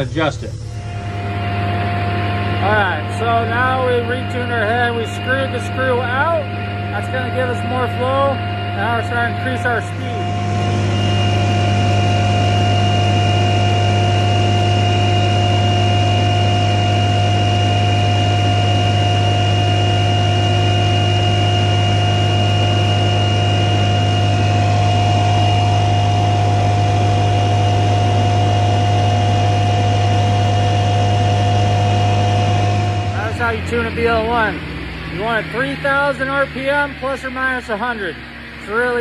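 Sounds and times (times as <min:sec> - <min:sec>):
mulcher head hum with high whine: 0:00.0 - 0:39.0.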